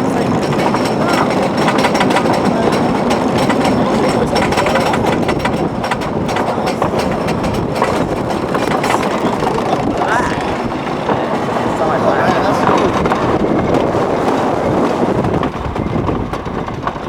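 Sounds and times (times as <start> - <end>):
roller coaster rattling on wooden track: 0.0 - 17.0.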